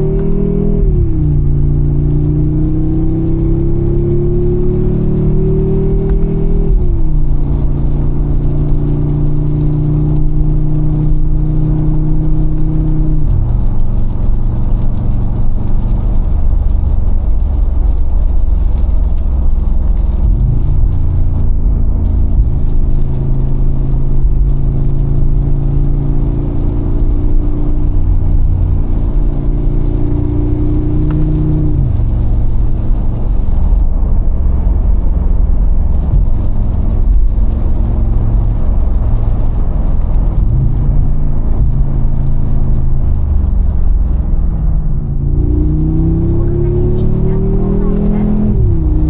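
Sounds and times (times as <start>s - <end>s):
car engine cruising: 0.0s - 49.0s.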